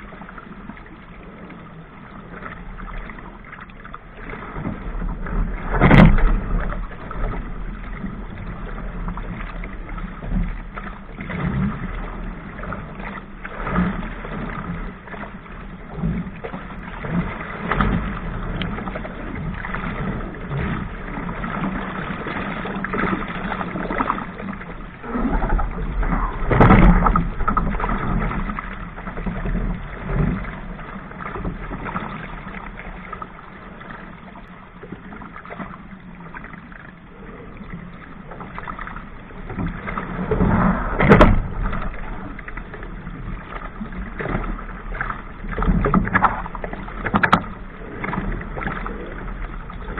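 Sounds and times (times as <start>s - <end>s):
hull slapping through waves: 0.0s - 49.9s
water splashing: 0.0s - 49.9s.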